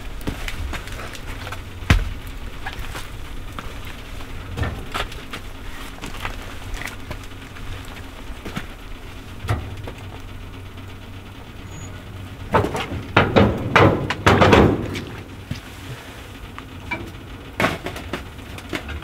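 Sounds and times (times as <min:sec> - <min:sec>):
clattering knocks and scrapes: 0:00.0 - 0:10.3, 0:11.8 - 0:19.0
fire burning with a low rumble: 0:00.0 - 0:19.0.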